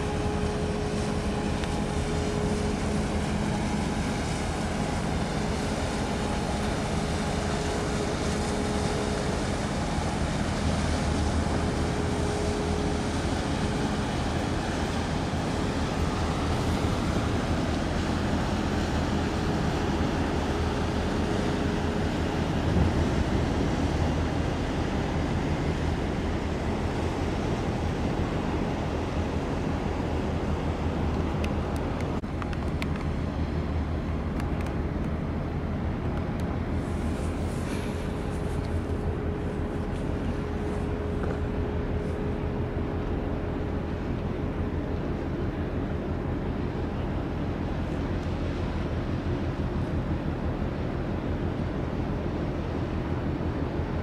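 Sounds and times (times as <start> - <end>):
ship engine drone: 0.0 - 54.0
water noise: 0.0 - 54.0
wind: 0.0 - 54.0.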